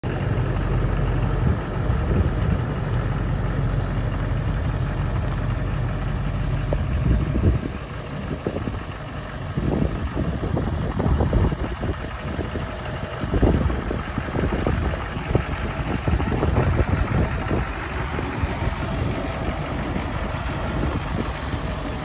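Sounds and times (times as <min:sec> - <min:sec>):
pickup truck engine rumbling: 0:00.0 - 0:22.0
tires creeping on gravel: 0:00.1 - 0:22.0.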